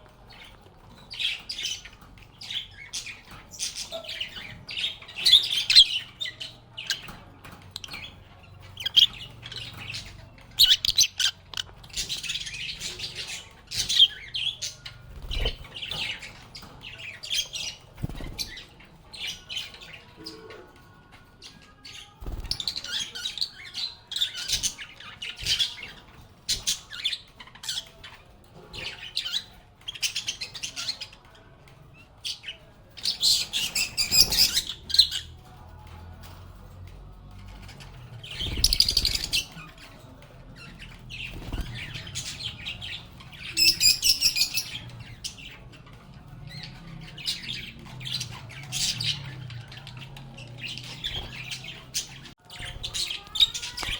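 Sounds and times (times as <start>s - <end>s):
lovebirds chirping and squawking: 0.0s - 53.9s.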